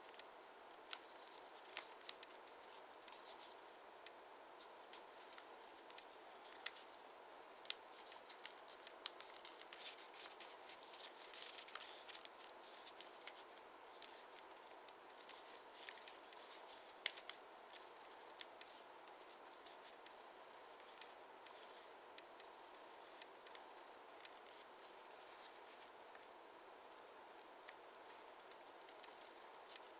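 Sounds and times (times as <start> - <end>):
paper being folded: 0.0 - 3.6, 4.6 - 7.0, 7.6 - 20.2, 20.8 - 26.3, 26.9 - 29.9
faint steady hiss: 0.0 - 29.9.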